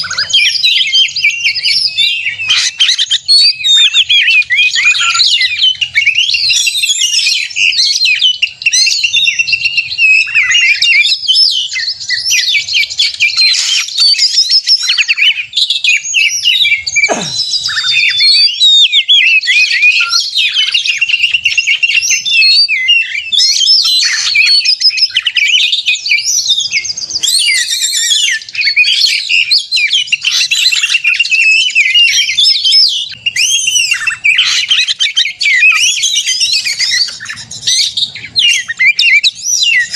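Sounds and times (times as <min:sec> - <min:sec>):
songbird singing fast varied song: 0:00.0 - 0:39.9.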